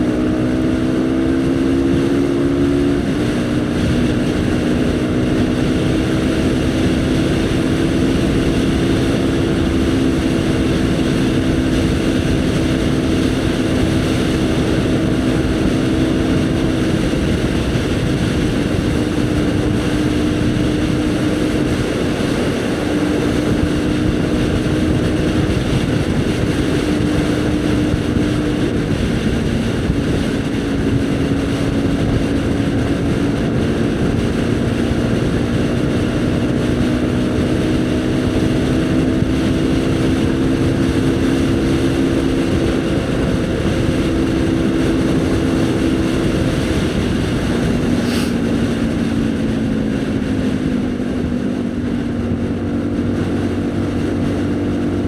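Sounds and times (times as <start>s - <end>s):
motorcycle engine cruising: 0.0s - 55.0s
wind rushing: 0.0s - 55.0s.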